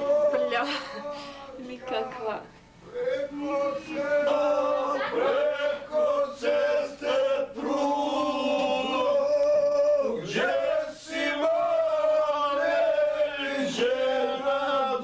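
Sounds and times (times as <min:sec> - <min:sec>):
men singing long held notes: 0:00.0 - 0:15.0.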